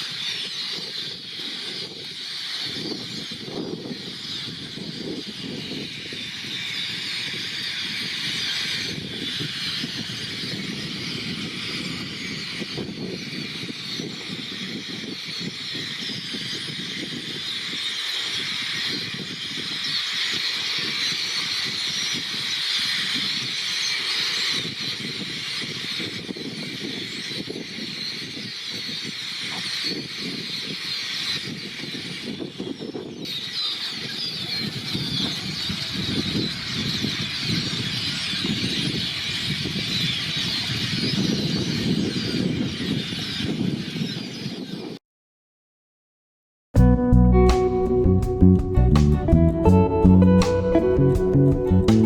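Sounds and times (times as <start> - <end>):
flock of birds chattering: 0.0 - 45.0.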